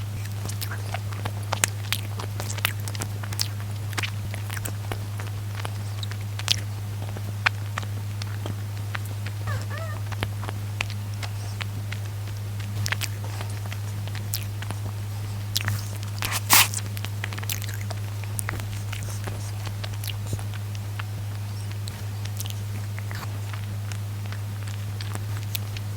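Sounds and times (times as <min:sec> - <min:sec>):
low electrical hum: 0:00.0 - 0:25.9
chewing and wet mouth clicks: 0:00.5 - 0:14.9, 0:15.5 - 0:21.1, 0:21.7 - 0:25.9.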